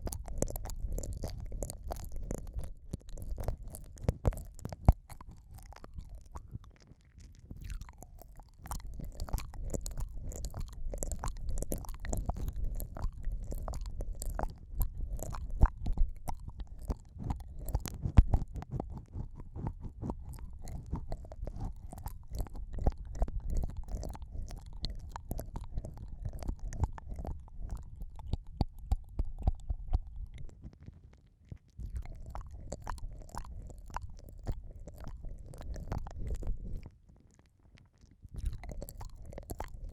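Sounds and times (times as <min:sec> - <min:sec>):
wet mouth clicks and licking: 0:00.0 - 0:39.9.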